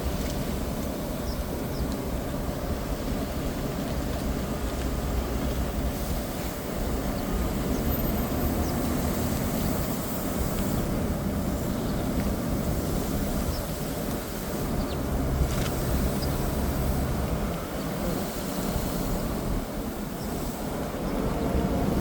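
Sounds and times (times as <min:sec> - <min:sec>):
distant traffic: 0:00.0 - 0:22.0.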